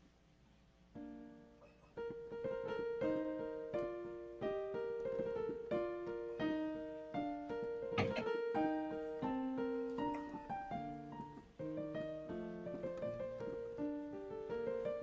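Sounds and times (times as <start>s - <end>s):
slow piano music: 0.9s - 15.0s.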